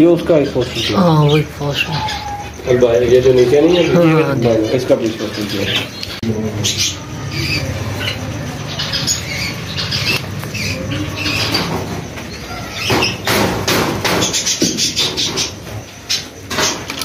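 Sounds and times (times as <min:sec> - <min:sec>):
cage birds chirping: 0:00.0 - 0:17.0.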